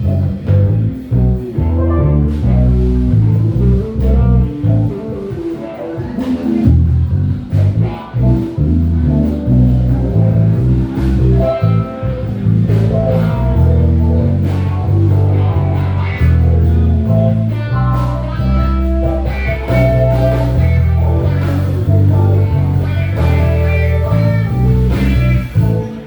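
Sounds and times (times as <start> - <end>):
drums: 0.0 - 26.0
electric guitar melodic lines: 0.0 - 26.0
walking bass guitar: 0.0 - 26.0.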